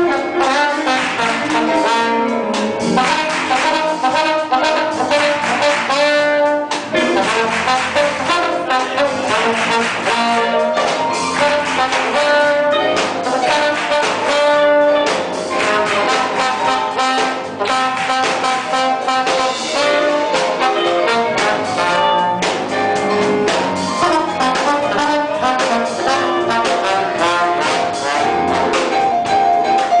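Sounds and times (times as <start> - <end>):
orchestra with brass playing: 0.0 - 30.0.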